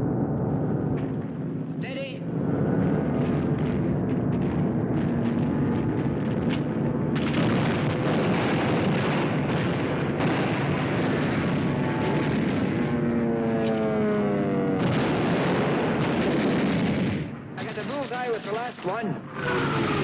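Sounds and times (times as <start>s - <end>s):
explosions: 0.8s - 18.3s, 19.3s - 20.0s
anti-aircraft gunfire: 0.8s - 20.0s.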